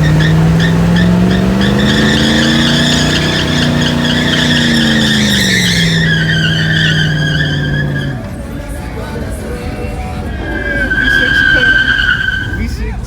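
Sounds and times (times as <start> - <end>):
truck engine revving: 0.0 - 13.0
tyres squealing on pavement: 0.0 - 13.0.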